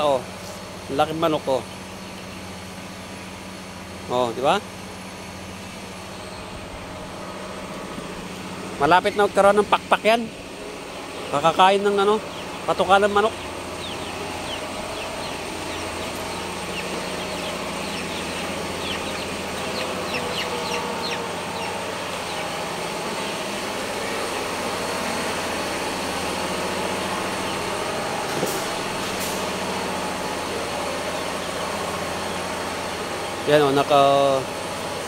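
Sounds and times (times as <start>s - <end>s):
chicks peeping: 0.0s - 35.0s
low mechanical hum: 0.0s - 35.0s.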